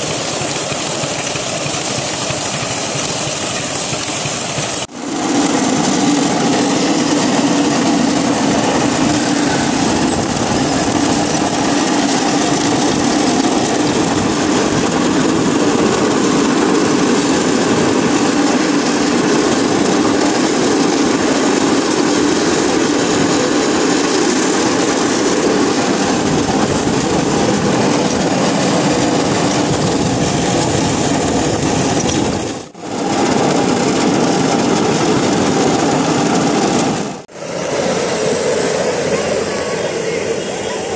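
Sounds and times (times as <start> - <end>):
steam exhaust chuffing: 0.0 - 40.9
wheels on rails: 0.0 - 40.9.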